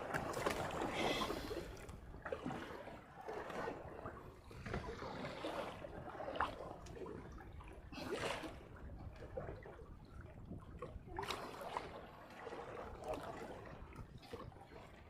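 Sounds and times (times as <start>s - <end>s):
water lapping against boat hull: 0.0s - 15.0s
water splashes: 0.0s - 15.0s.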